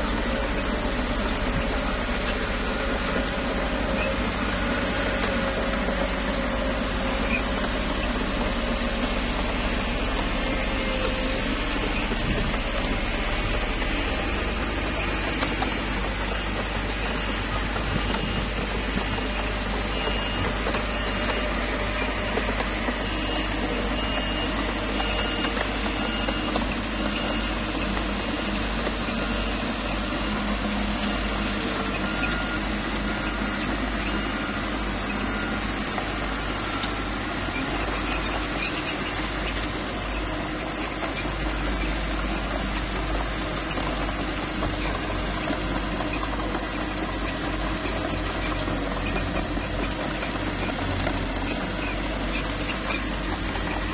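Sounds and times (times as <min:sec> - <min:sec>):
bulldozer engine running: 0:00.0 - 0:53.9.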